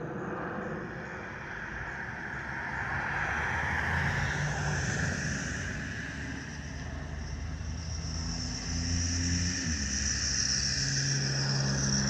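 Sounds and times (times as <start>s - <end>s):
jet engine rumble and hiss: 0.0s - 12.0s.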